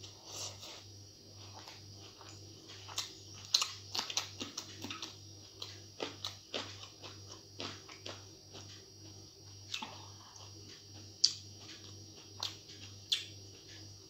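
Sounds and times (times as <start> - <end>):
chewing with wet mouth clicks: 1.4 - 13.8.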